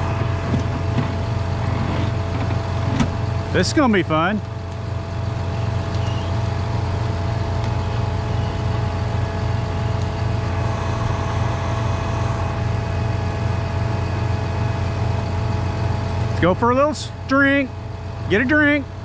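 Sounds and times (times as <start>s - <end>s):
diesel engine at raised idle: 0.0s - 19.0s
steady whine: 0.0s - 19.0s.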